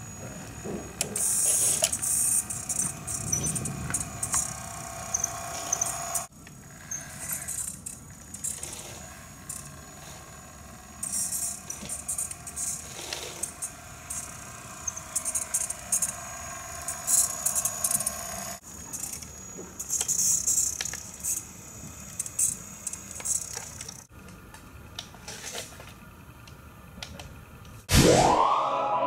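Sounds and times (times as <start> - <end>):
toy truck motor whine: 0.0 - 26.6.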